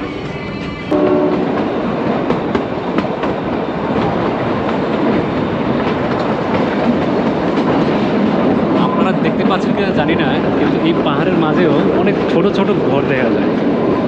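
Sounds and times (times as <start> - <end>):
rail joint clicks: 0.0 - 14.0
train wheels rumbling on rail: 0.0 - 14.0.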